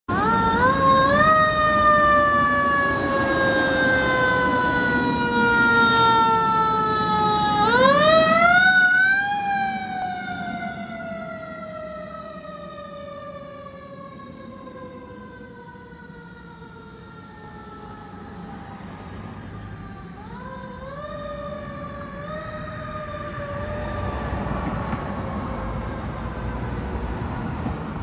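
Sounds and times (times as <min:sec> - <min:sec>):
fire engine siren wailing: 0:00.1 - 0:28.0.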